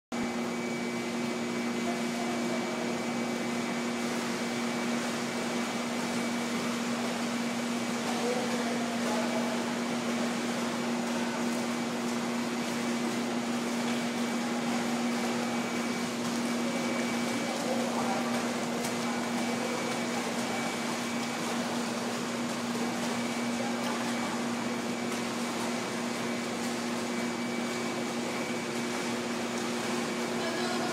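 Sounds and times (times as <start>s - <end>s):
steady machinery hum: 0.1s - 30.9s.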